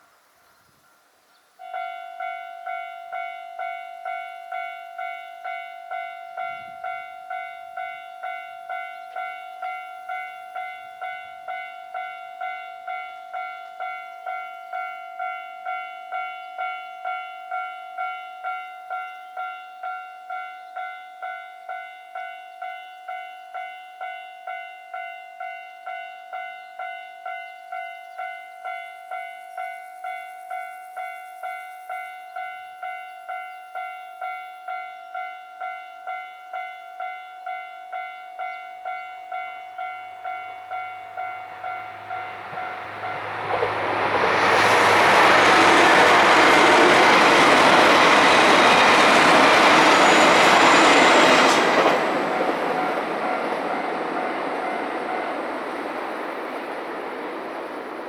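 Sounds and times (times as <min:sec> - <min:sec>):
level crossing warning bell: 0:01.6 - 0:58.0.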